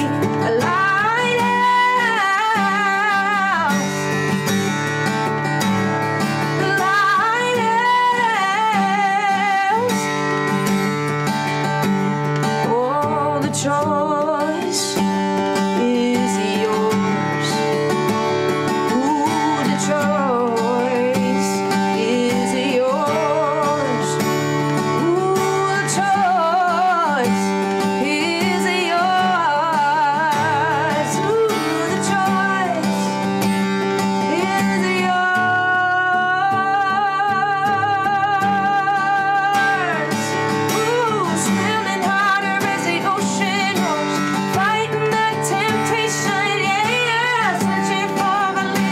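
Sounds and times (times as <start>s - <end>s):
acoustic guitar: 0.0s - 48.9s
woman singing: 0.0s - 48.9s.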